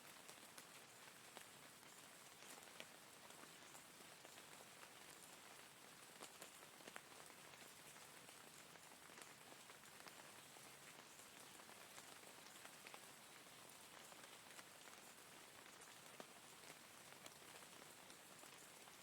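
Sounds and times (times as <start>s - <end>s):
faint rain falling: 0.0s - 19.0s.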